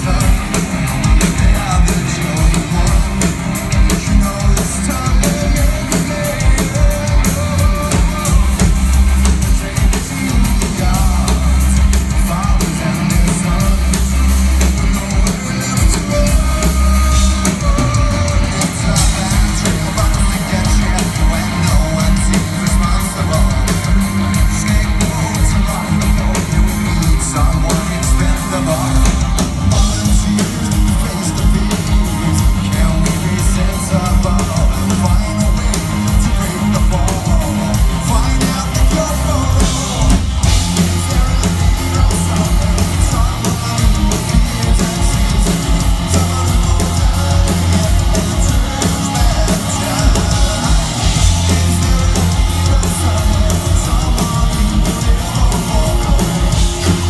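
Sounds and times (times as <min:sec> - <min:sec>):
live rock band playing: 0:00.0 - 0:57.0
man singing lead vocal: 0:00.0 - 0:57.0.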